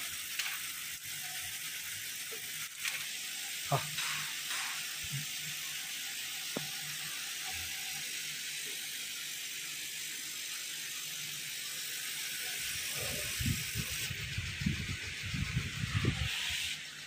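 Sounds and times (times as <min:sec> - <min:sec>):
laser cutter fans hissing: 0:00.0 - 0:17.0.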